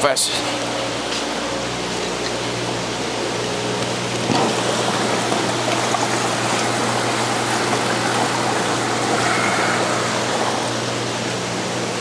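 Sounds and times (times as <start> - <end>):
low steady hum: 0.8 - 12.0
aquarium water splashing: 1.9 - 12.0.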